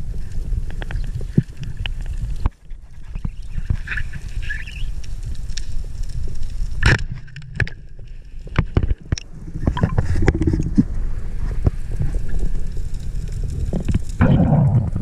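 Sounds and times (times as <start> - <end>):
low rumble of water: 0.0 - 15.0.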